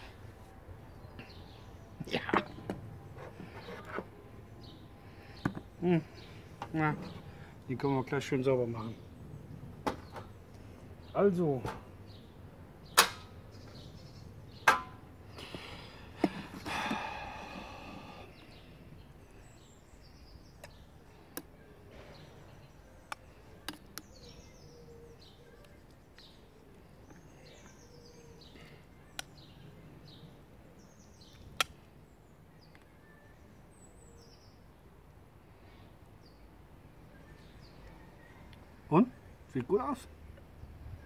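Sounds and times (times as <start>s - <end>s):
birds singing: 0.0s - 41.0s.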